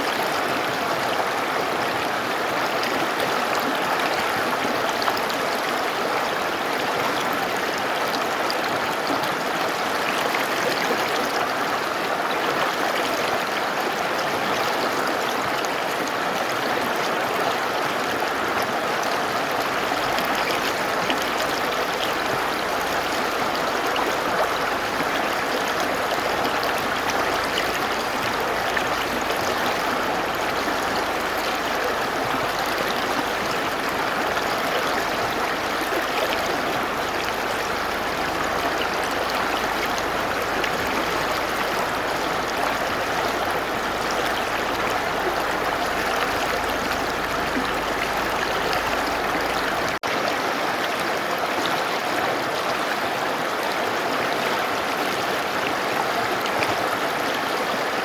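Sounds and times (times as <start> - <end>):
river rushing and splashing: 0.0 - 58.0.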